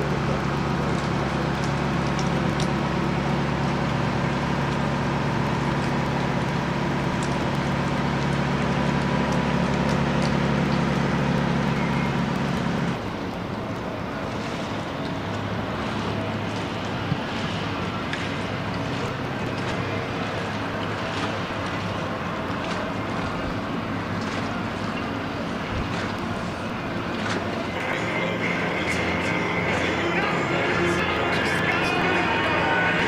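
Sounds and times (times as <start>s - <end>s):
machinery drone: 0.0s - 33.0s.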